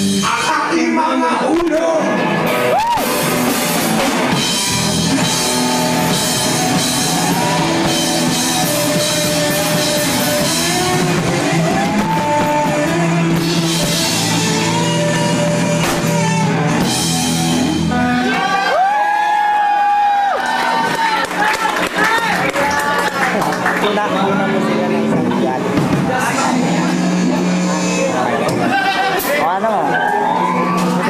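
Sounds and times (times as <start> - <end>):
lead guitar bending notes: 0.0 - 18.7, 22.2 - 31.0
rock band playing: 0.0 - 31.0.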